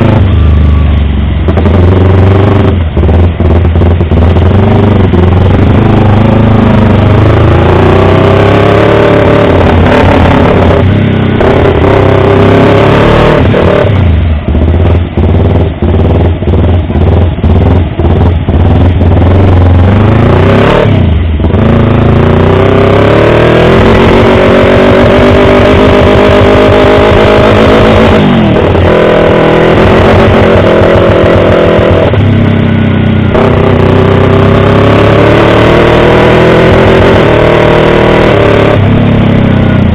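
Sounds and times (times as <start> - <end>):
loud motorcycle engine revving: 0.0 - 39.9.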